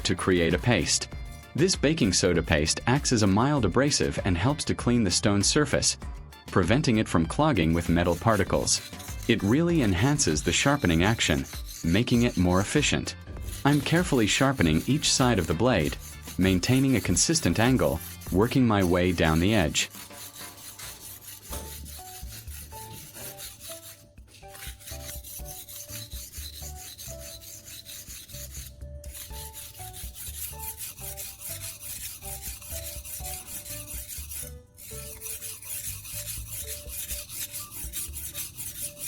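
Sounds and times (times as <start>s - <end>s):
knife rasping on whetstone: 0.0s - 3.4s, 7.4s - 39.0s.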